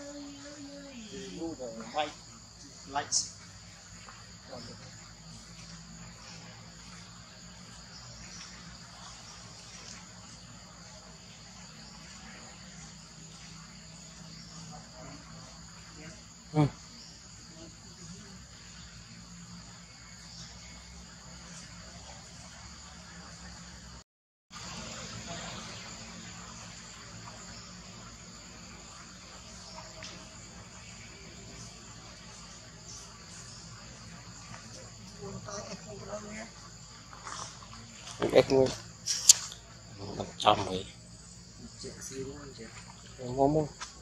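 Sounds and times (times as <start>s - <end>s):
insects buzzing: 0.0s - 44.0s.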